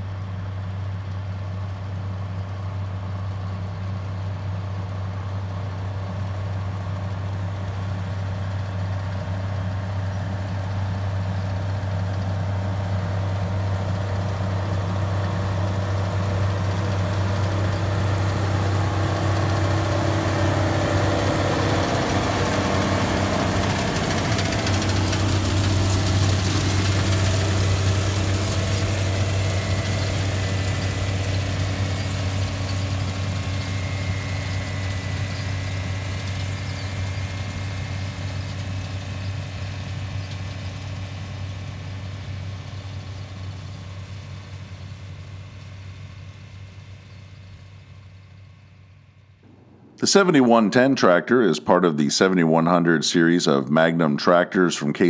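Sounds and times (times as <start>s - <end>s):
tractor diesel engine under load: 0.0s - 48.2s.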